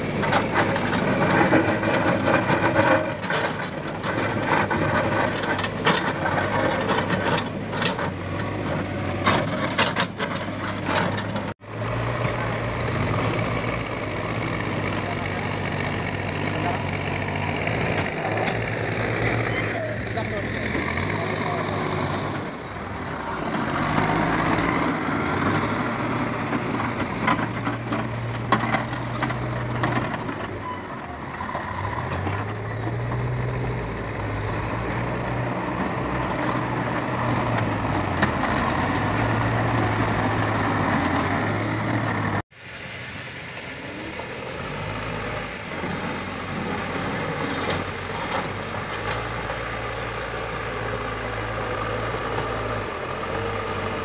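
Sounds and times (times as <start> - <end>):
diesel engines revving: 0.0 - 54.0.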